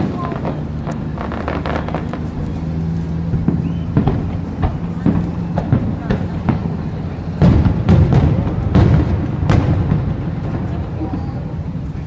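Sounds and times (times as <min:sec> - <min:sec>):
crowd chatter: 0:00.0 - 0:12.0
fireworks bangs: 0:00.0 - 0:12.0.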